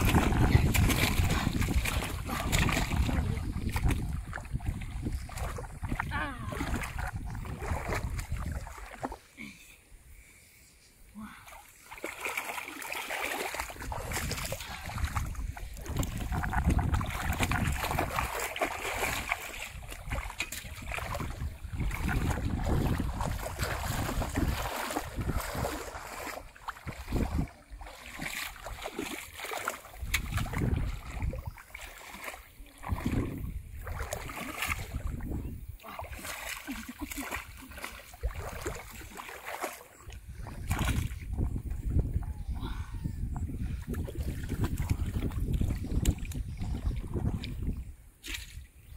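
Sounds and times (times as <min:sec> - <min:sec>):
wind buffeting microphone: 0:00.0 - 0:09.0, 0:13.6 - 0:36.3, 0:40.0 - 0:48.1
feet wading through water: 0:00.0 - 0:10.3, 0:11.1 - 0:48.9
water splashing and sloshing: 0:00.0 - 0:10.3, 0:11.1 - 0:48.9.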